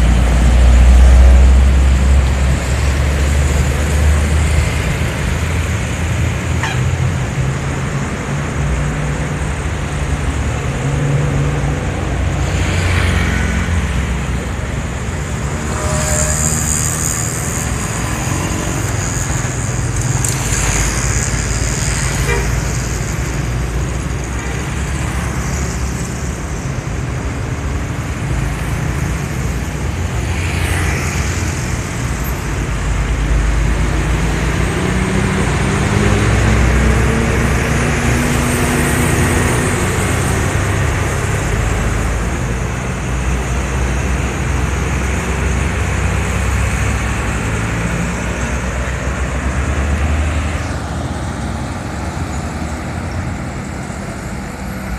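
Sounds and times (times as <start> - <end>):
heavy vehicle engine speeding up: 0.0 - 54.9
road traffic passing: 0.0 - 54.9.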